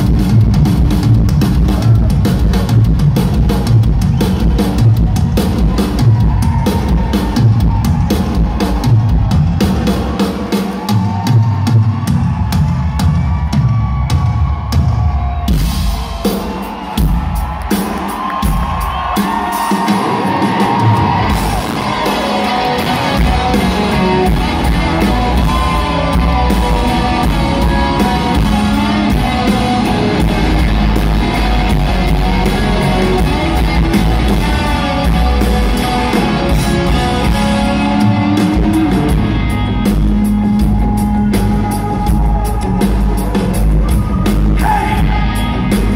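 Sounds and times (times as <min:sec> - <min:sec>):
crowd yelling: 0:00.0 - 0:45.9
live rock band playing: 0:00.0 - 0:45.9.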